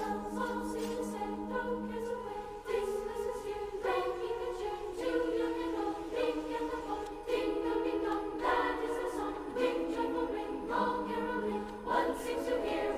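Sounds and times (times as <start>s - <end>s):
choir singing sustained notes: 0.0s - 12.9s.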